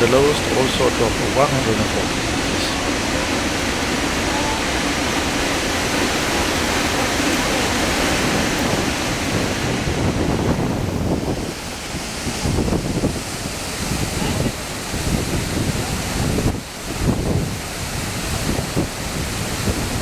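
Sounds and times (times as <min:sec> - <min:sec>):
waterfall rushing: 0:00.0 - 0:20.0
wind buffeting microphone: 0:00.0 - 0:20.0.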